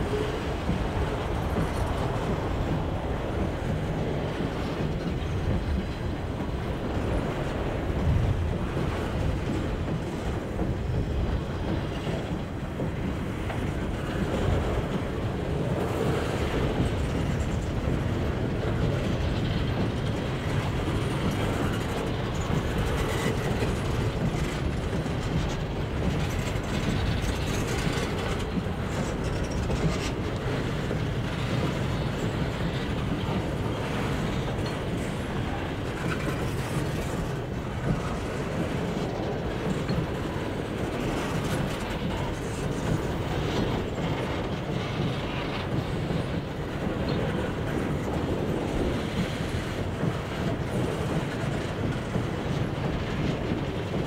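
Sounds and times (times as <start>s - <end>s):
steel wheels rumbling: 0.0s - 54.0s
wheel clacks on track: 0.0s - 54.0s.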